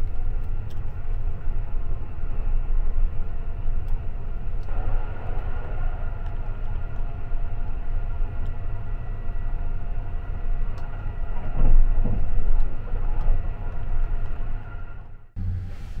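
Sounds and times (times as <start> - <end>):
faint constant hum: 0.0 - 16.0
train rumble from inside compartment: 0.0 - 16.0.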